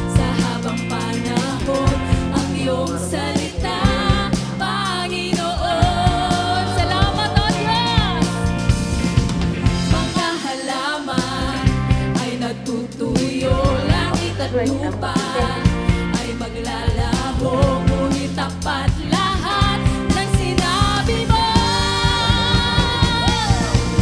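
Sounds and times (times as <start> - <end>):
song with singing over beat: 0.0 - 8.9, 9.6 - 24.0.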